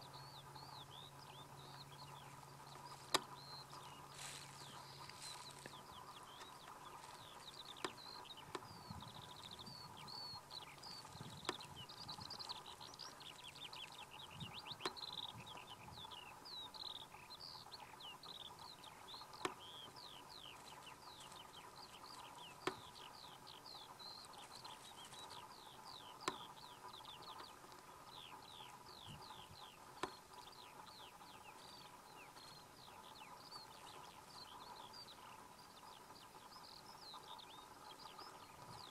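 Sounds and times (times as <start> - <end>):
faint steady hum: 0.0 - 38.9
small birds chirping: 0.0 - 38.9.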